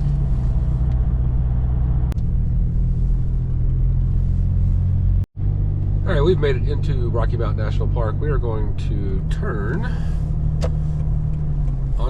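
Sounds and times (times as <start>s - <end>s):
car engine rumbling while driving: 0.0s - 12.0s.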